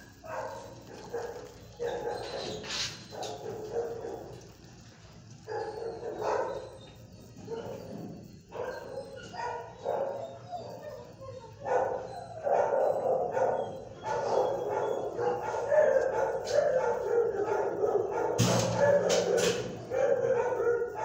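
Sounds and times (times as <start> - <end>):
dogs barking: 0.0 - 21.0.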